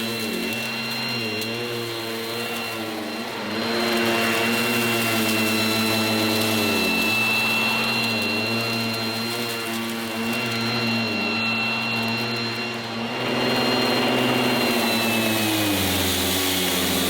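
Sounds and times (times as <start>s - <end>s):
handheld vacuum cleaner running: 0.0s - 17.0s.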